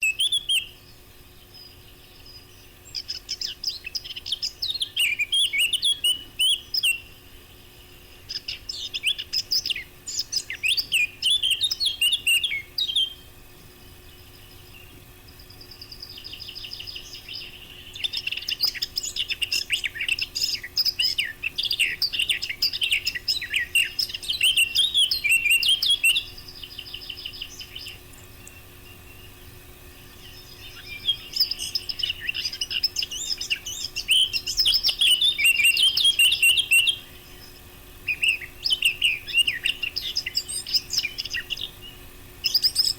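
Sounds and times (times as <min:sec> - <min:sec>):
bird warbling song: 0:00.0 - 0:42.9.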